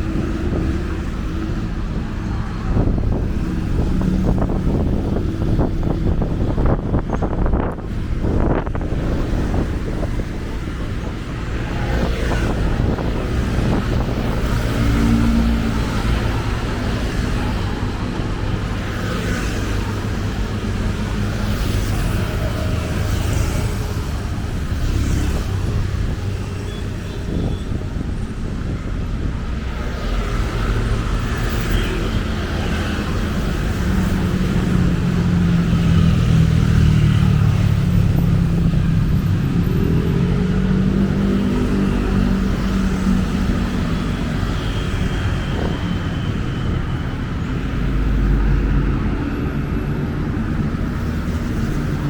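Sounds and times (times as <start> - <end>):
cars passing: 0.0 - 52.0.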